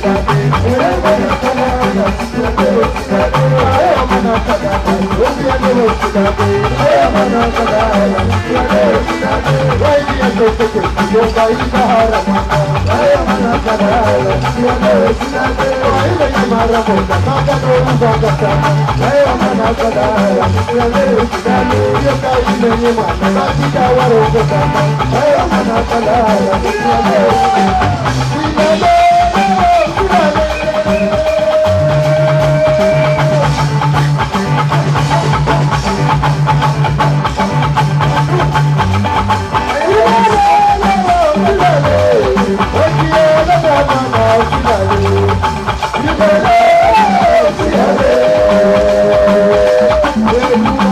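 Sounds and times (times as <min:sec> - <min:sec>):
band music with drums: 0:00.0 - 0:50.9.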